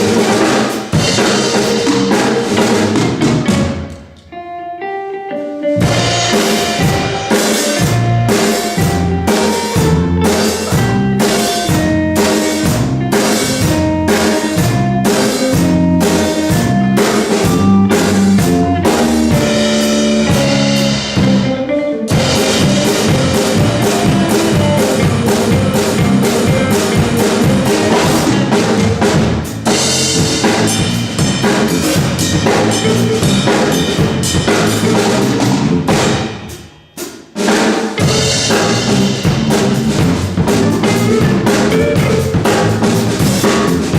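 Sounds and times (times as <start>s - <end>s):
funk band playing: 0.0s - 43.9s.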